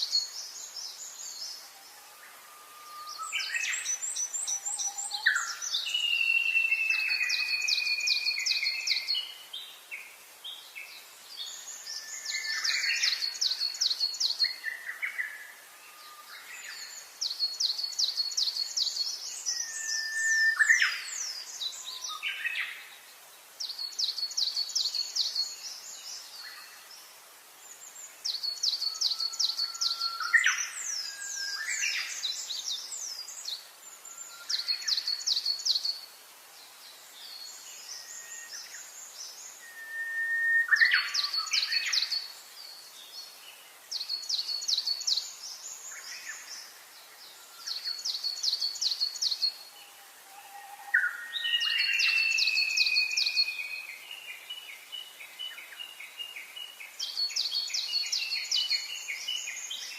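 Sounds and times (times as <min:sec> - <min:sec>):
birds giving low whistles: 0:00.0 - 0:09.3, 0:11.4 - 0:22.9, 0:28.2 - 0:36.1, 0:37.3 - 0:42.9, 0:43.9 - 0:59.9.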